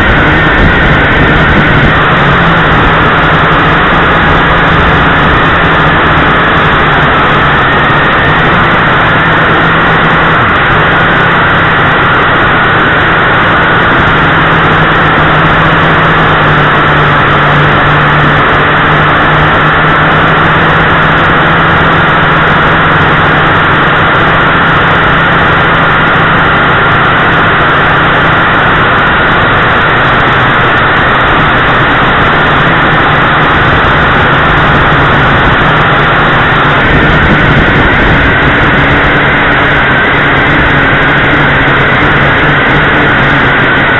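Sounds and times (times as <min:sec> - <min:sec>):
quadcopter motors whirring: 0:00.0 - 0:43.9.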